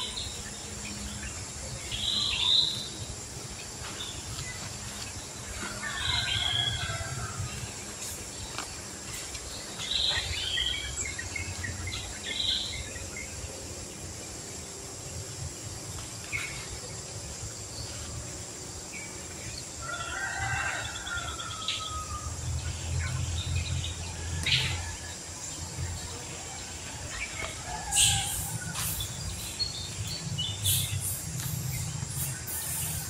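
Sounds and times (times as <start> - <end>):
bird calls and chirps: 0.0 - 13.6, 18.9 - 33.0.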